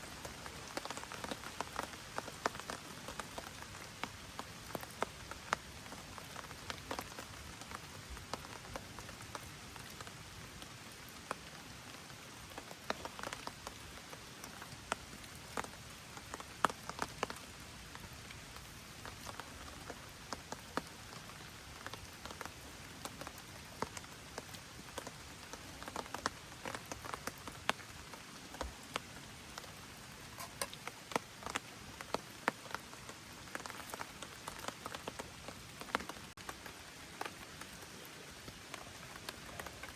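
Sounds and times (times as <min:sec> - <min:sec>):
gentle rain falling: 0:00.0 - 0:39.9
raindrops striking close by: 0:00.0 - 0:39.9.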